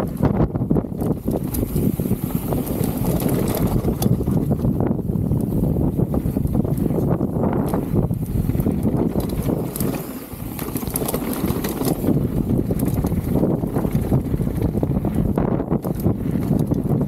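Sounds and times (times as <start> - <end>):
bike rolling and rattling on dirt: 0.0 - 17.0
wind buffeting microphone: 0.0 - 17.0.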